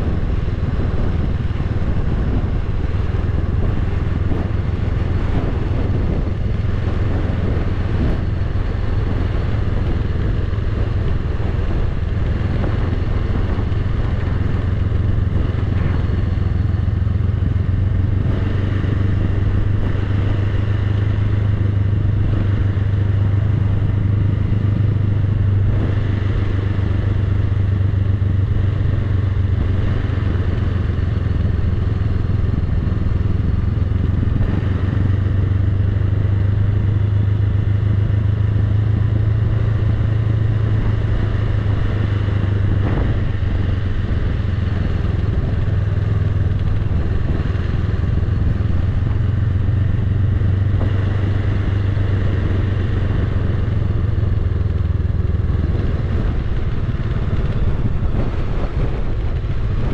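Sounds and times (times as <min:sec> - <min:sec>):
motorcycle engine running: 0:00.0 - 0:59.9
road noise: 0:00.0 - 0:59.9.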